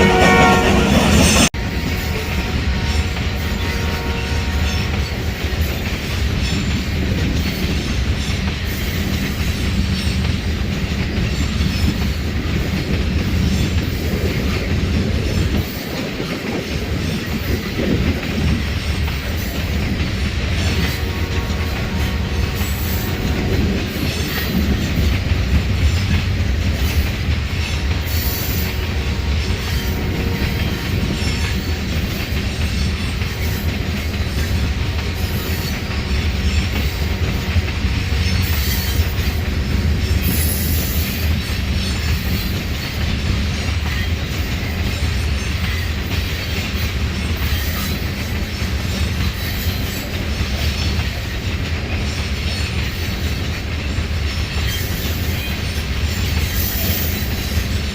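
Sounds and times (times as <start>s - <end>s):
freight train cars rumbling: 0.0s - 57.9s.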